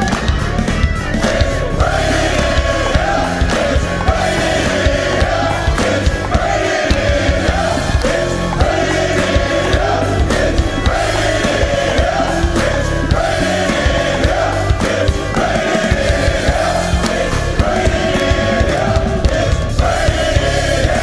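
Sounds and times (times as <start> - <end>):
band accompaniment: 0.0 - 21.0
men's choir singing gospel: 0.0 - 21.0
steady drum beat: 0.0 - 21.0.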